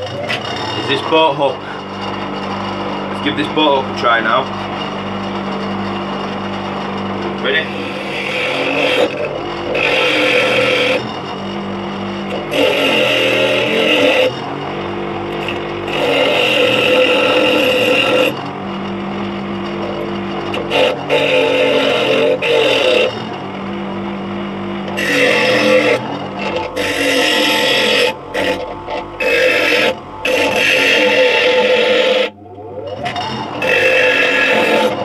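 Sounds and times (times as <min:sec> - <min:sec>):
bench grinder motor humming: 0:00.0 - 0:35.0
metal grinding on wheel: 0:00.0 - 0:35.0.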